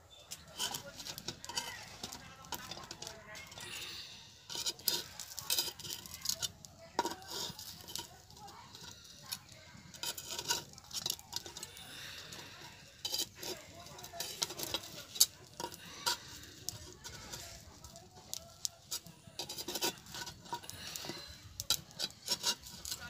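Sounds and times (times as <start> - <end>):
metal blade scraping clay pan: 0.2 - 23.0.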